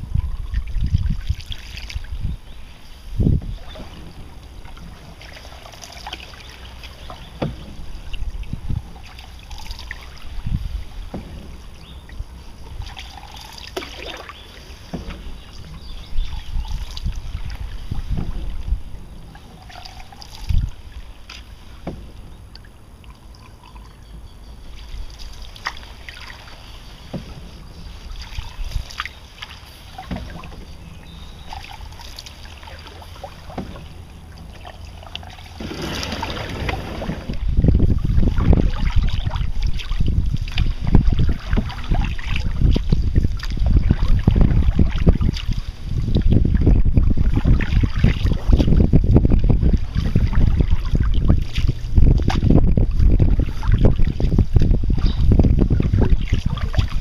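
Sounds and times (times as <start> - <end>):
wind buffeting microphone: 0.0 - 29.3, 29.9 - 57.0
paddle pulling through water: 0.0 - 57.0
water dripping: 3.7 - 49.8.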